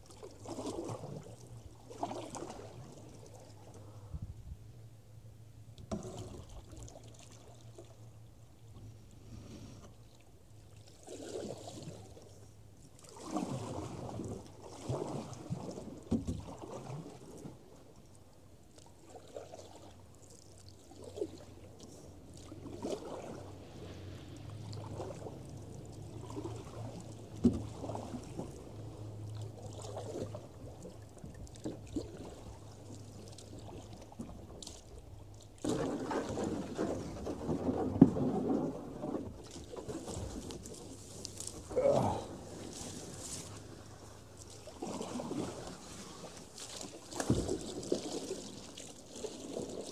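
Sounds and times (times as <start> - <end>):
paddle strokes splashing water: 0.0 - 4.1, 5.8 - 49.9.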